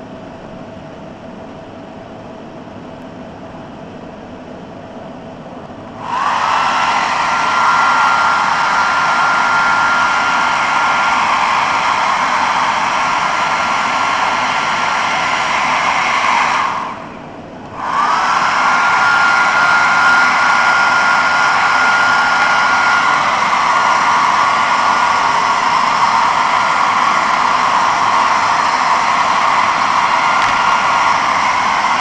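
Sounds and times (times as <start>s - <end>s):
hair dryer running: 5.8s - 32.0s.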